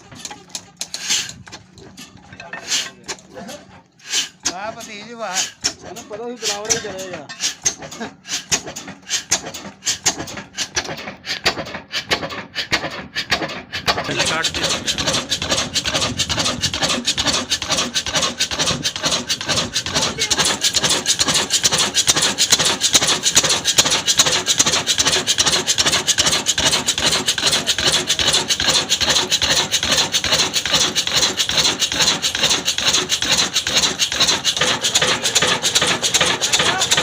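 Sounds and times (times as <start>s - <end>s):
saw rasping through wood: 0.0s - 37.0s.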